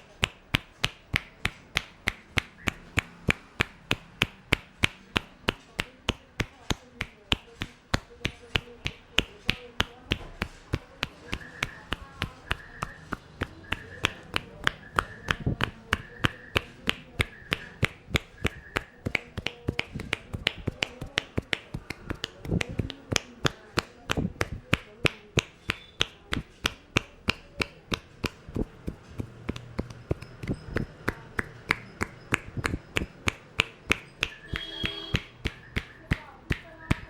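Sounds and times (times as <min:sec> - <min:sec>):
hands slapping head and shoulders: 0:00.0 - 0:37.0.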